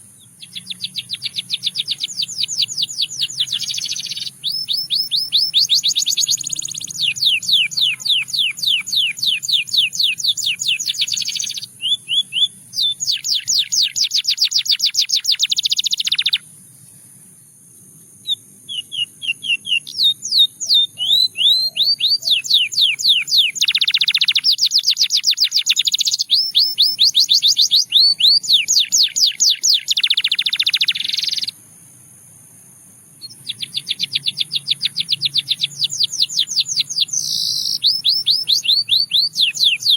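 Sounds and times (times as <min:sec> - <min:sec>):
canary singing in trills: 0:00.0 - 0:16.5, 0:18.2 - 0:31.6, 0:33.2 - 0:39.9.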